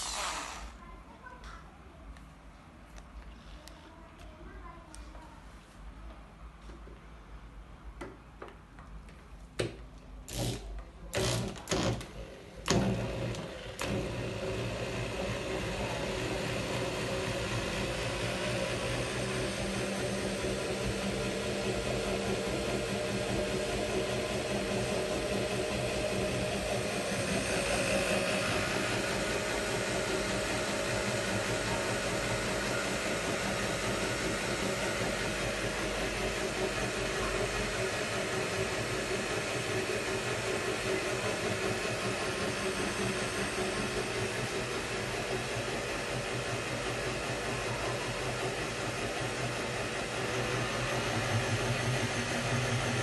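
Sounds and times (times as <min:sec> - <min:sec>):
electric drill running: 0:00.0 - 0:00.8, 0:10.2 - 0:53.0.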